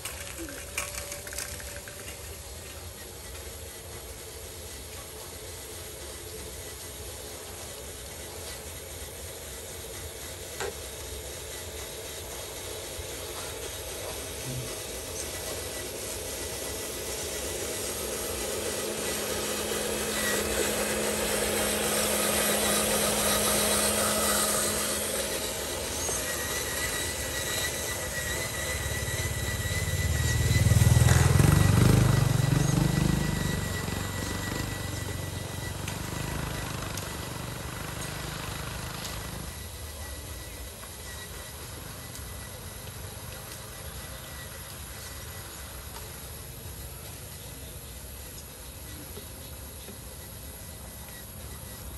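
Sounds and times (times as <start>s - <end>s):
electric motor and gears whining: 0.0s - 51.9s.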